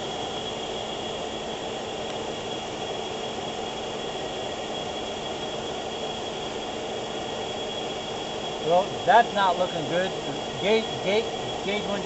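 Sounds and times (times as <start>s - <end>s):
car engine idling: 0.0s - 12.0s
thin high whine: 0.0s - 12.0s.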